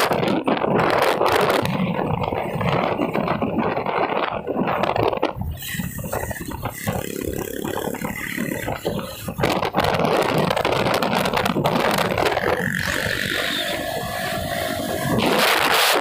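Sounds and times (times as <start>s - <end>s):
motorcycle engines: 0.0s - 16.0s
wind on microphone: 0.0s - 16.0s.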